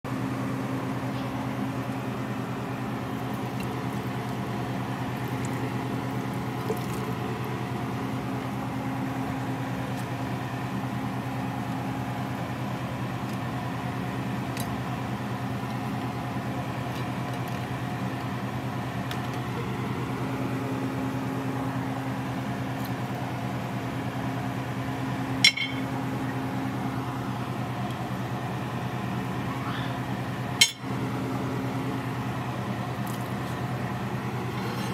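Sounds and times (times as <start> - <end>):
low electrical hum: 0.1 - 34.9.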